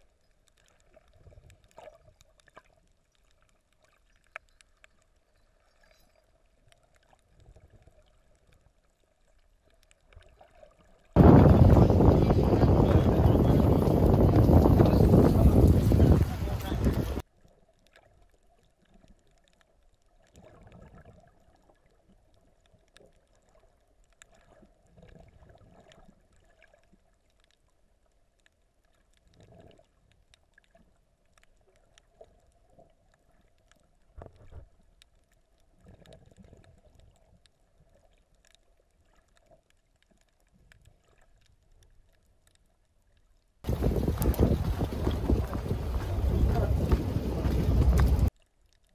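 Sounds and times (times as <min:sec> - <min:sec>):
small underwater clicks: 0:00.0 - 0:11.2, 0:15.7 - 0:48.9
underwater water surges: 0:00.0 - 0:42.2, 0:43.6 - 0:48.8.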